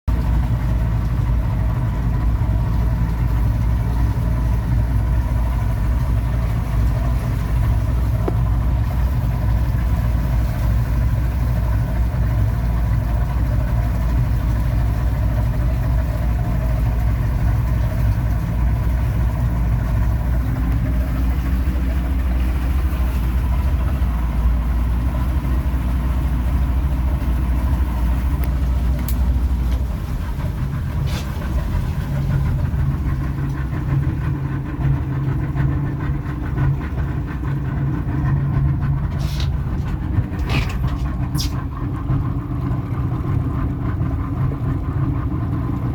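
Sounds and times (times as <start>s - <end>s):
ship engine low drone: 0.1s - 45.9s.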